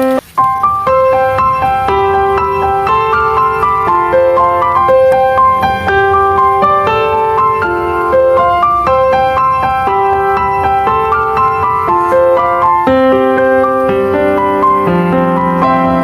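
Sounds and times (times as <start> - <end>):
light piano melody: 0.0 - 16.0.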